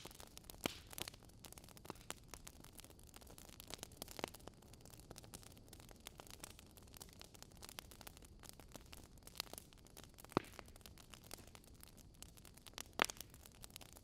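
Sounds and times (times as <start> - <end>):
fire crackling: 0.0 - 14.0
fire sharp snaps: 0.0 - 14.0.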